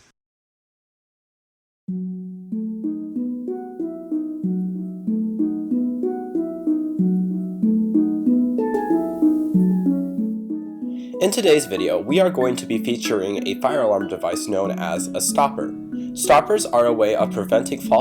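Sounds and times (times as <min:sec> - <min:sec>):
calm melody of quick notes: 0:01.9 - 0:18.0.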